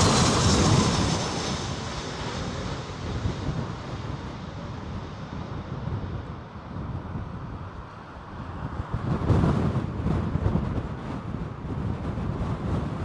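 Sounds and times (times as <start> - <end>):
jet airliner passing: 0.0 - 13.0
storm wind buffeting microphone: 0.0 - 13.0.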